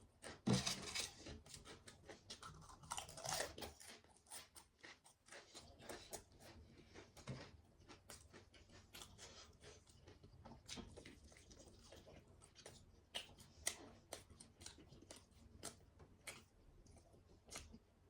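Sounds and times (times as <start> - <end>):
person chewing: 1.0 - 17.8.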